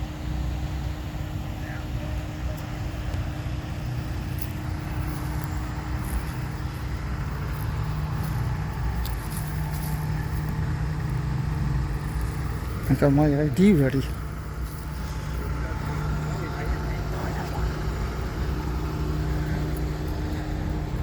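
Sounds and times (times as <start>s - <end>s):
motor vehicle engine rumbling: 0.0s - 21.0s.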